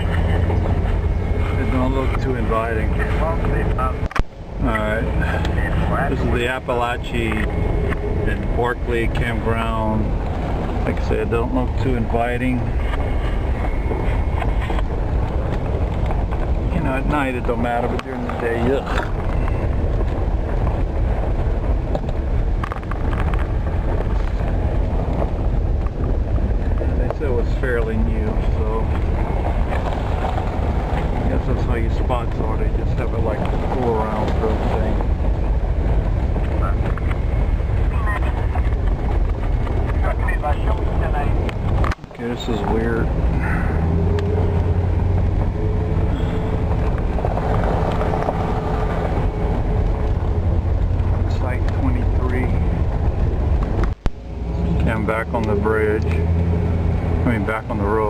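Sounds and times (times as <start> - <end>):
wind on microphone: 0.0 - 54.9
van engine and road rumble: 0.0 - 58.0.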